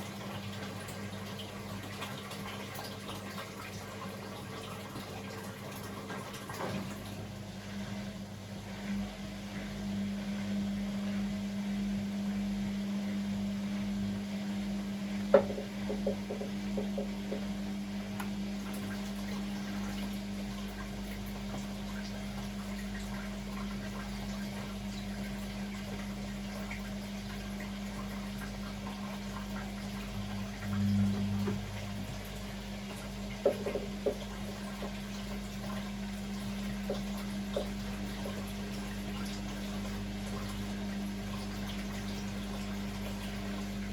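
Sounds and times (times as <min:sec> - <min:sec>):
washing machine hum: 0:00.0 - 0:43.9
water running in washing machine: 0:00.0 - 0:43.9.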